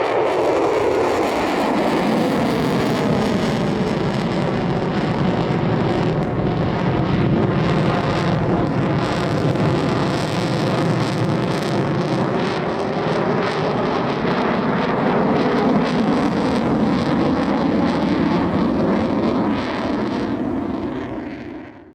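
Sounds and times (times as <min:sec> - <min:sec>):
jet engine roar: 0:00.0 - 0:21.9.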